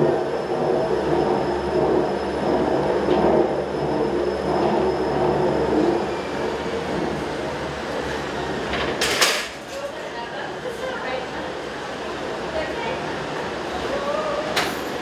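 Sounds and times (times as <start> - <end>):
cable railway running noise: 0.0 - 15.0.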